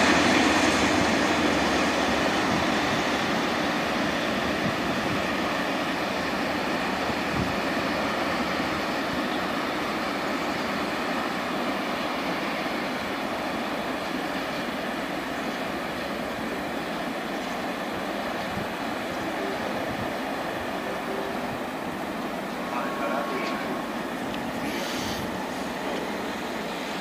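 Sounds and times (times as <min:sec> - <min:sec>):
train wheels rolling on track: 0:00.0 - 0:27.0.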